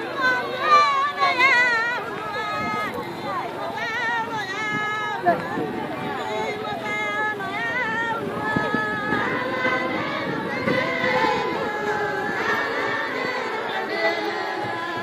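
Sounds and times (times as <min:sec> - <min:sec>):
group of women singing: 0:00.0 - 0:15.0.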